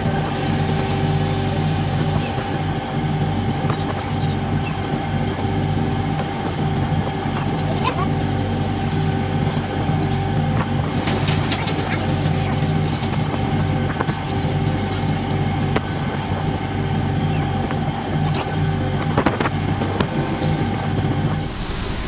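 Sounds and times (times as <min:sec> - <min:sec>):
boat engine drone: 0:00.0 - 0:22.0
thin steady whine: 0:00.0 - 0:22.0.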